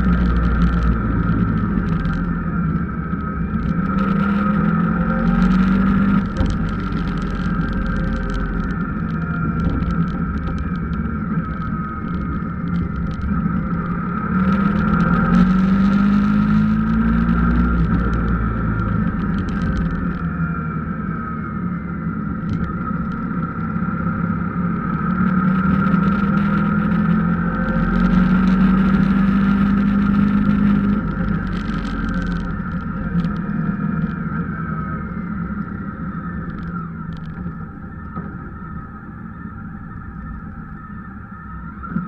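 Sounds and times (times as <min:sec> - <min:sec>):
car engine hum: 0:00.0 - 0:42.0
road noise: 0:00.0 - 0:42.0.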